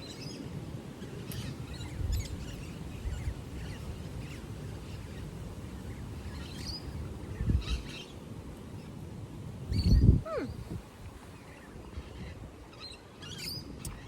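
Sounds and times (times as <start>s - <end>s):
small birds chirping: 0.0s - 9.0s, 9.6s - 14.0s.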